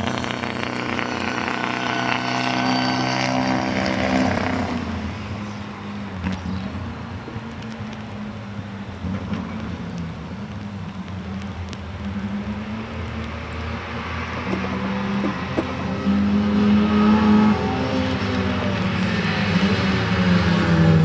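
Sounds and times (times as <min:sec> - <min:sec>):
distant race car engines: 0:00.0 - 0:21.0.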